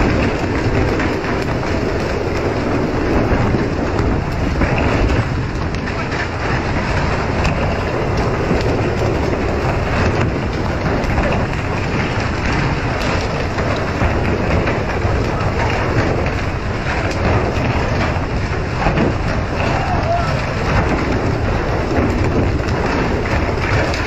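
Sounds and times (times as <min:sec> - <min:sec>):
low rumble: 0:00.0 - 0:24.0
sea along a hull: 0:00.0 - 0:24.0.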